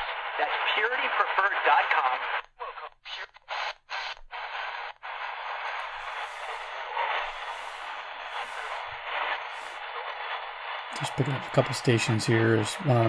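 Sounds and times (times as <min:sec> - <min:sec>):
radio audio cutting in and out: 0:00.0 - 0:13.0
radio static hiss: 0:00.0 - 0:13.0.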